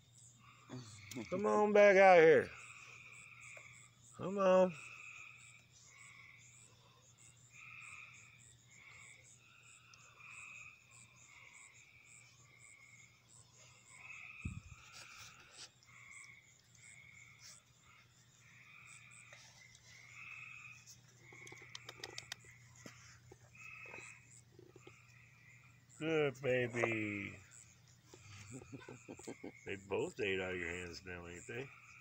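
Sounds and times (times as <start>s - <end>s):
frogs rasping calls: 0.0s - 32.0s
insects steady high ticking: 0.0s - 32.0s.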